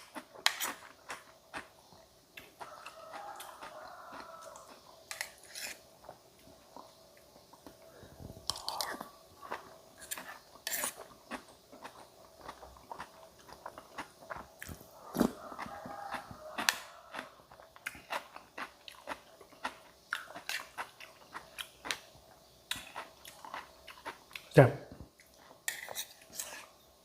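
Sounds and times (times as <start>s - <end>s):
person chewing crunchy food: 0.0s - 24.6s, 25.2s - 26.8s.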